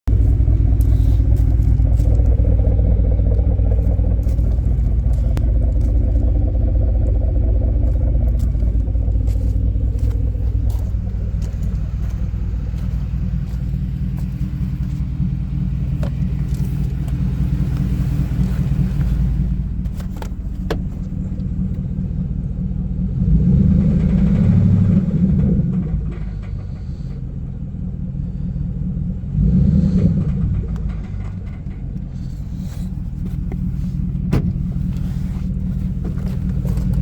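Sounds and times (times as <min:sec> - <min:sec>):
engine rattle: 0:00.0 - 0:37.0
truck engine running: 0:00.0 - 0:37.0.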